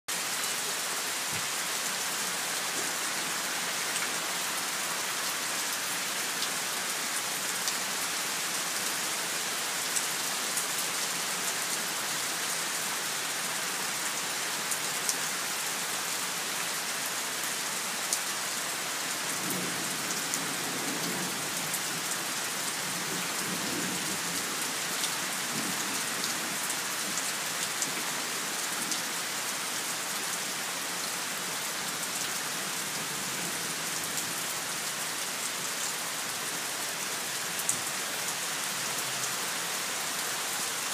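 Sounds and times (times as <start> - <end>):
steady rain falling: 0.1 - 40.9.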